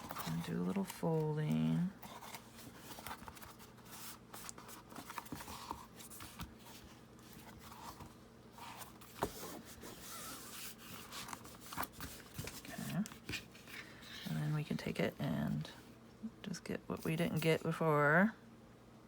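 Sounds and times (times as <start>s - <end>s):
fabric and paper rustling: 0.0s - 15.8s.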